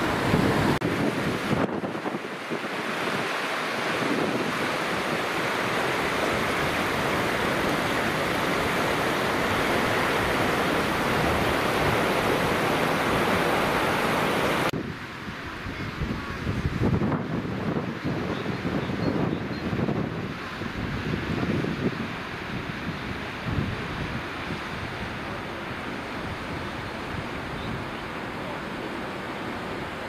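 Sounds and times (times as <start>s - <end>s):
wind buffeting microphone: 0.0s - 25.4s
rushing floodwater: 0.0s - 30.0s.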